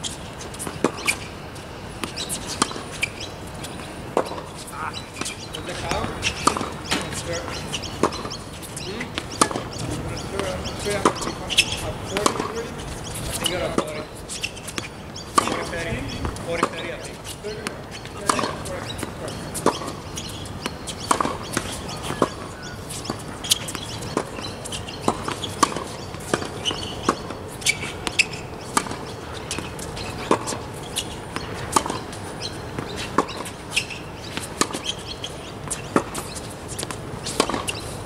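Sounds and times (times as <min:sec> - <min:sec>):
tennis ball bouncing on hard court: 0:00.4 - 0:37.9
tennis ball hit by racket: 0:00.6 - 0:01.3, 0:02.0 - 0:14.0, 0:14.7 - 0:16.9, 0:17.5 - 0:37.8.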